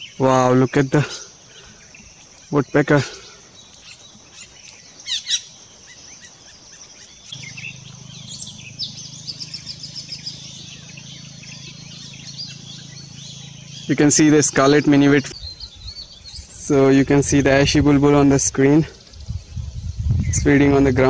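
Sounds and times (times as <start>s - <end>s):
forest birds calling: 0.0s - 21.0s
low steady hum: 0.0s - 21.0s
steady high hiss: 0.0s - 21.0s.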